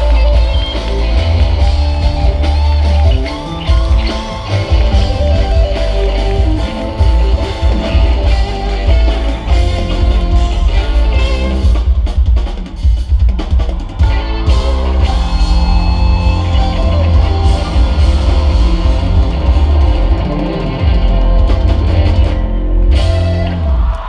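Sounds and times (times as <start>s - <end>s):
heavy bass: 0.0s - 12.2s, 13.9s - 24.0s
drum kit: 0.0s - 24.0s
guitar: 0.0s - 24.0s
keyboards: 0.0s - 24.0s.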